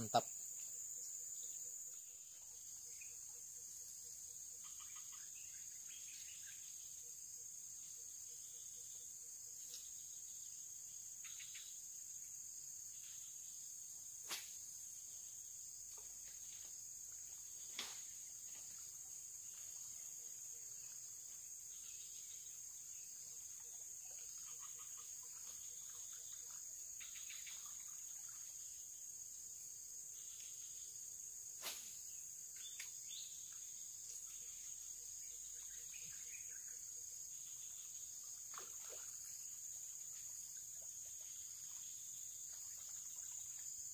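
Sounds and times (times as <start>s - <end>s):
faint chirps: 0.0s - 12.3s, 12.9s - 43.9s
high-pitched insect chorus: 0.0s - 43.9s.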